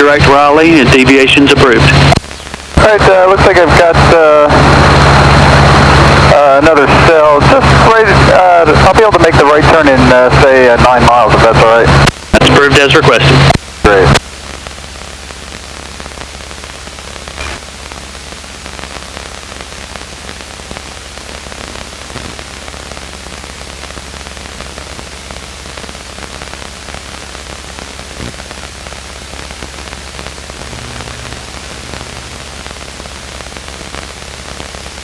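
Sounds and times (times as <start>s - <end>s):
low steady hum: 0.0s - 35.0s
radio static hiss: 0.0s - 35.0s.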